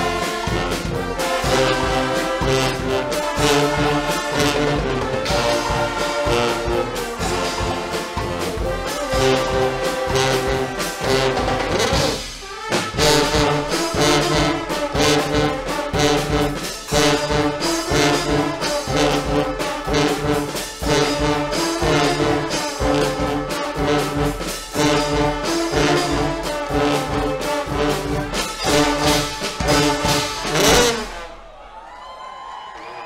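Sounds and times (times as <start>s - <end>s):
steady drum beat: 0.0s - 31.5s
brass band playing loudly: 0.0s - 31.7s.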